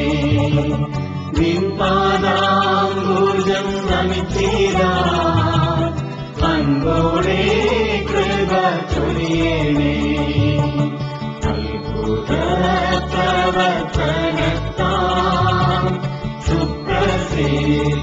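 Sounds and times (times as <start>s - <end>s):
instrumental accompaniment with bass: 0.0s - 18.0s
voices singing held notes: 0.0s - 18.0s.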